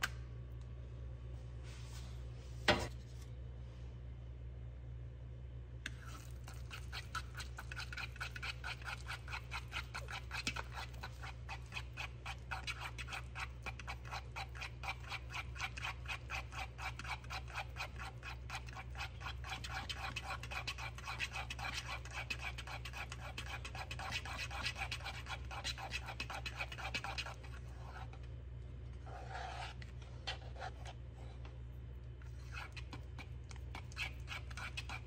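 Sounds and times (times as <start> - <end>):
fork beating eggs in bowl: 5.9 - 35.0.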